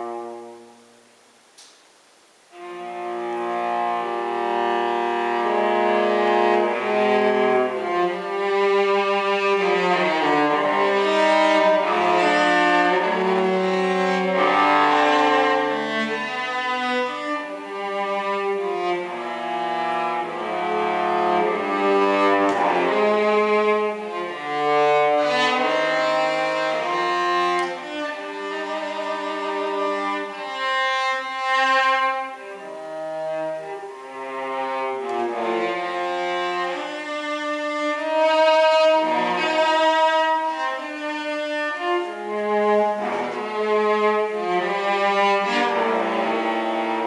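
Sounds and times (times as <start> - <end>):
bowed cello: 0.0 - 1.0, 2.5 - 47.0.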